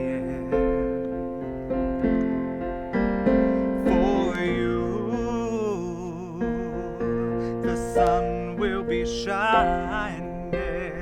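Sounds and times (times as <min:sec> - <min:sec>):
slow piano ballad: 0:00.0 - 0:11.0.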